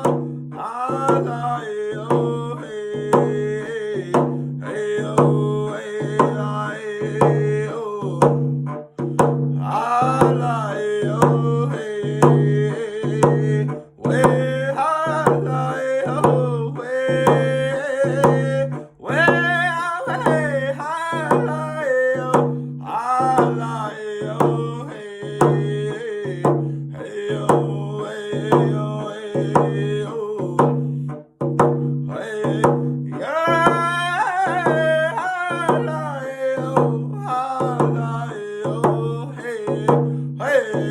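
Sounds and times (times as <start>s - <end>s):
man singing: 0.0s - 31.3s, 32.0s - 40.9s
steady drum beat: 0.0s - 40.9s.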